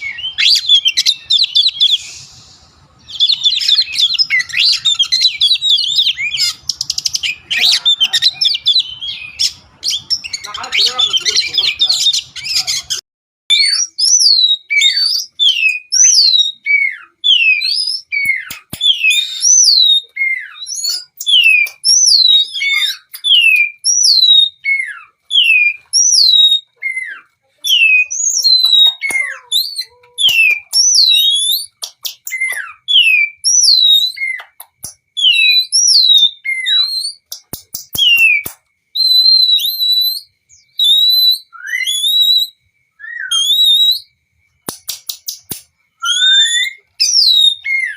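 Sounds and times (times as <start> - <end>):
bird singing whistled notes: 0.0 - 47.9.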